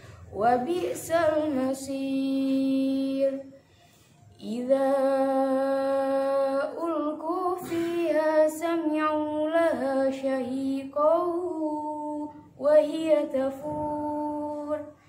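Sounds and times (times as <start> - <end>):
woman chanting recitation: 0.2 - 3.6, 4.3 - 15.0.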